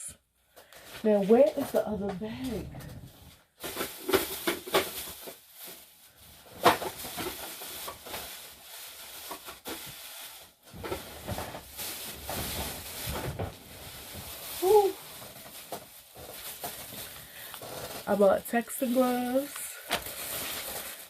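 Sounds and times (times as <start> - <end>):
plastic bags rustling: 0.5 - 21.0.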